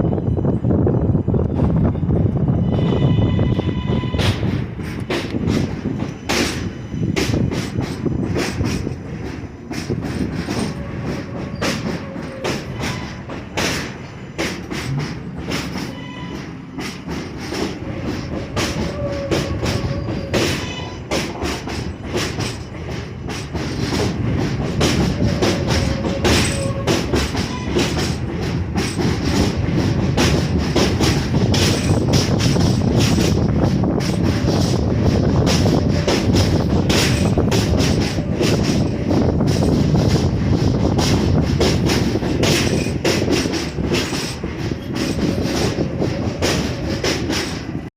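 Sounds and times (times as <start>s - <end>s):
train rumble: 0.0s - 47.9s
train wheels clacking: 1.4s - 47.9s.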